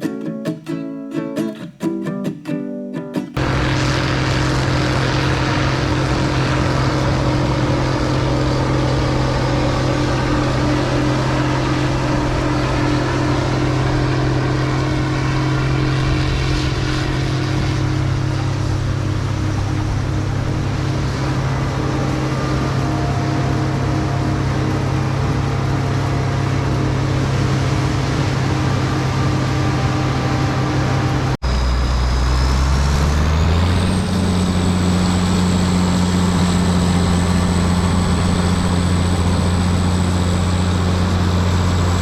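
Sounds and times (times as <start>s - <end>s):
combine diesel engine drone: 3.4s - 42.0s.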